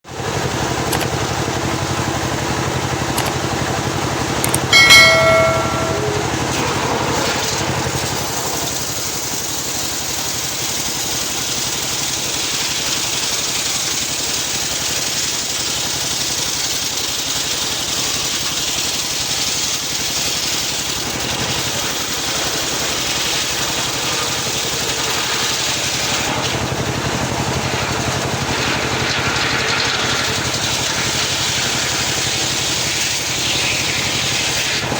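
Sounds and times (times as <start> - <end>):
circular sawmill ripping a log: 6.3 - 34.9.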